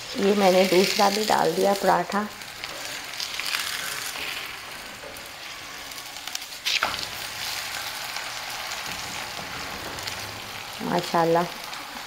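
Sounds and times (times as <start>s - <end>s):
oil sizzling under frying bread: 0.0s - 12.0s.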